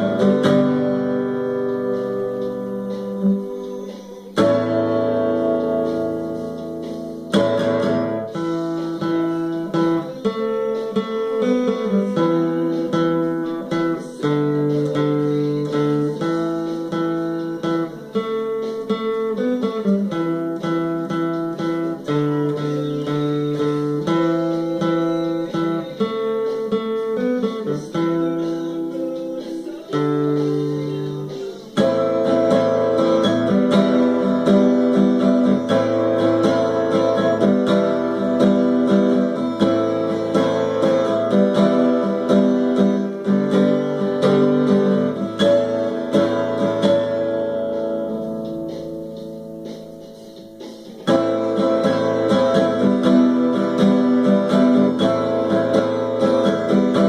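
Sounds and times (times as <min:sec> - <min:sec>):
guitar chords: 0:00.0 - 0:57.0.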